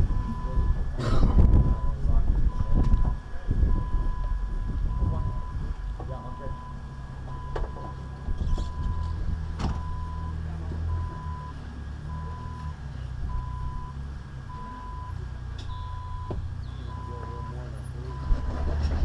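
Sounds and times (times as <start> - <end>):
engine rumble: 0.0 - 19.0
electronic warning beeper: 1.4 - 9.2, 9.8 - 18.5.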